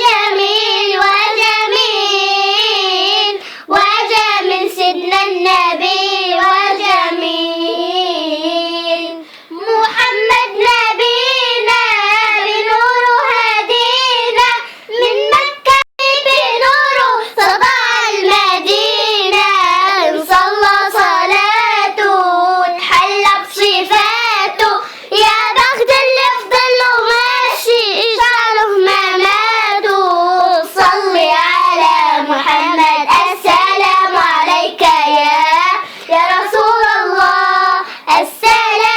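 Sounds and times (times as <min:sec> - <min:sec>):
girl singing unaccompanied: 0:00.0 - 0:38.9.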